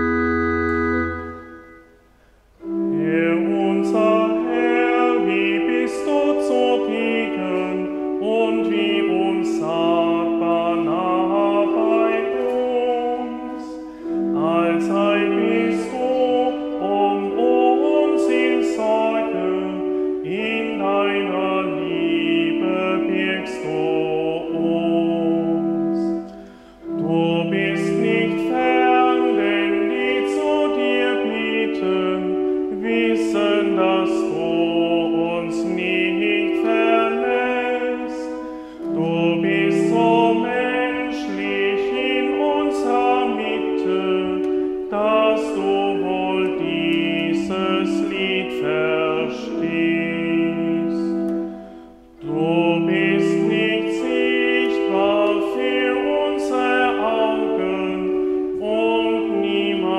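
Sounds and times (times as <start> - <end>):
hymn singing: 0.0 - 59.9
organ accompaniment: 0.0 - 59.9.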